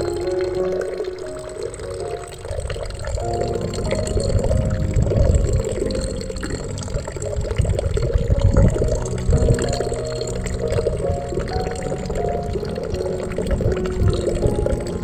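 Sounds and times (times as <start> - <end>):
water gurgling and splashing: 0.0 - 15.0
low rumble: 2.5 - 15.0.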